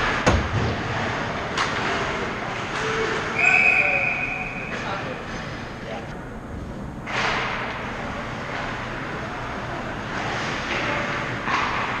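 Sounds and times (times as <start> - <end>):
low rink hum: 0.0 - 12.0.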